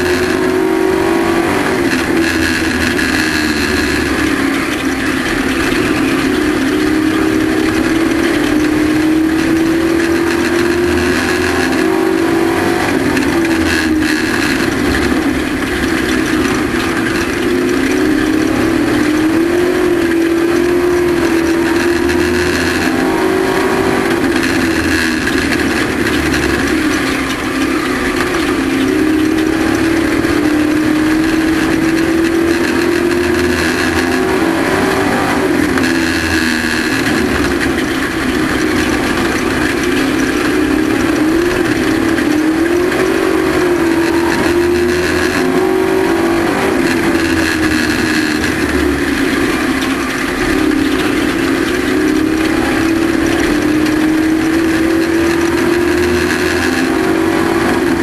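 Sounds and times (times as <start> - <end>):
race truck engine revving: 0.0 - 58.0.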